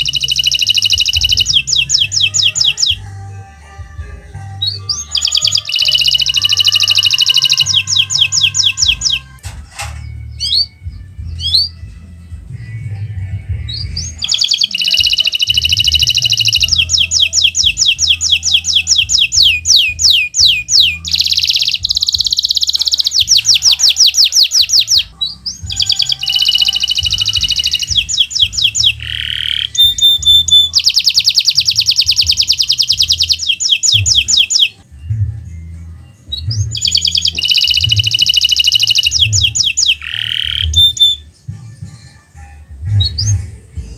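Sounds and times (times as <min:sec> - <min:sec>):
canary trilling song: 0:00.0 - 0:43.9.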